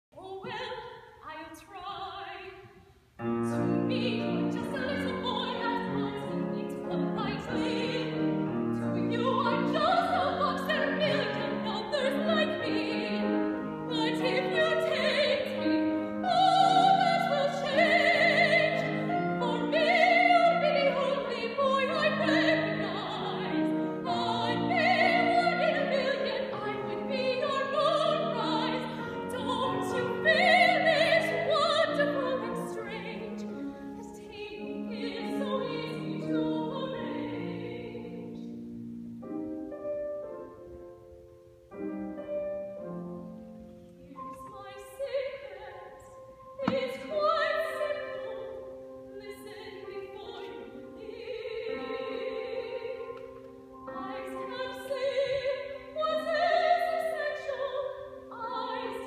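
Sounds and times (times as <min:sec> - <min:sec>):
woman singing opera: 0:00.2 - 0:02.8, 0:03.4 - 0:38.6, 0:44.0 - 0:59.0
piano accompaniment: 0:03.2 - 0:59.0.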